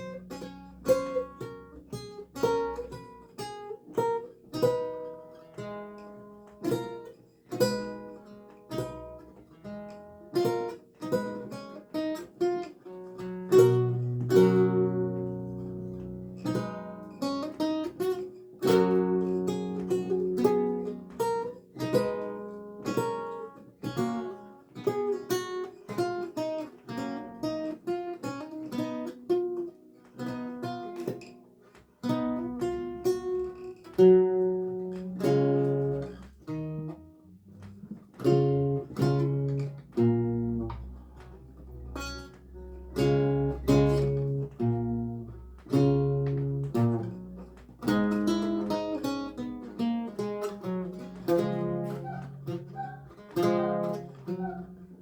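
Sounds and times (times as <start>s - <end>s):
solo lute music: 0.0s - 55.0s.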